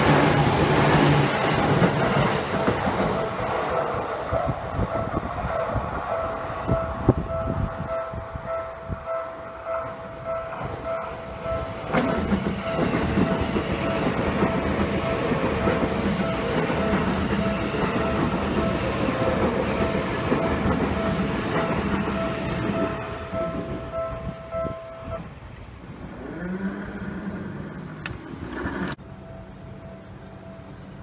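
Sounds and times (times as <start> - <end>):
train passing with wheel clatter: 0.0 - 31.0.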